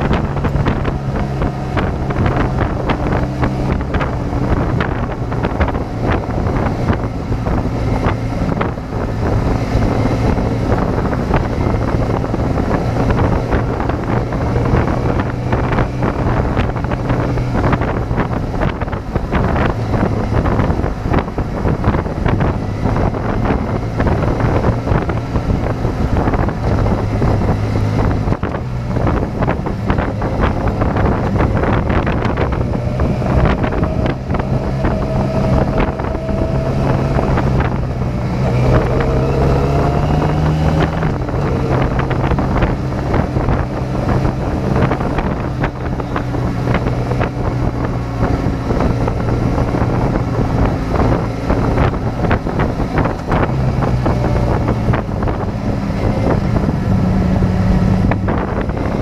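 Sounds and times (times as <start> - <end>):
motorcycle engine running: 0.0 - 59.0
wind buffeting on microphone: 0.0 - 59.0.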